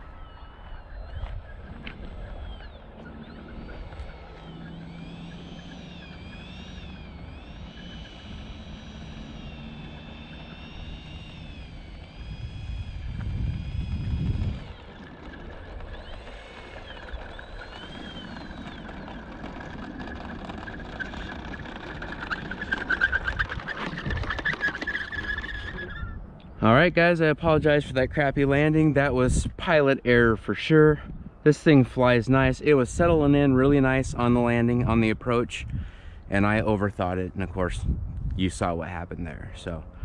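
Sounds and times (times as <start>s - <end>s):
electric ducted fan whine: 0.0s - 40.0s
model plane rolling on asphalt: 0.0s - 40.0s.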